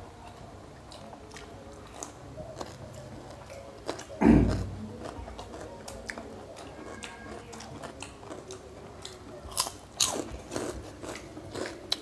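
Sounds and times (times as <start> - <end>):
chewing: 0.2 - 12.0.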